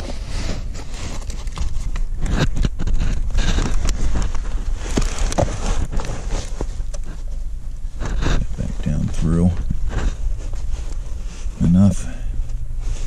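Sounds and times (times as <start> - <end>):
car carpet rustling and scraping: 0.0 - 13.0.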